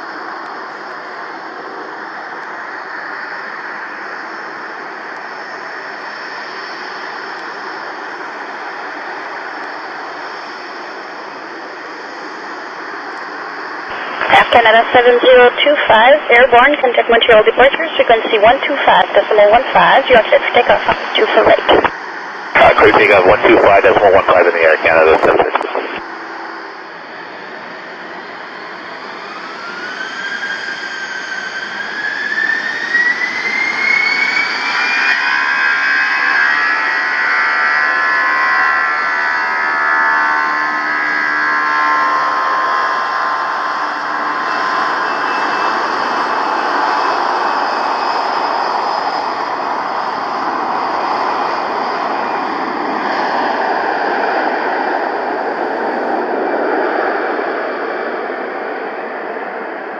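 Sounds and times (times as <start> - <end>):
jet engines roaring: 0.0 - 59.9
faint high whine: 0.2 - 56.4.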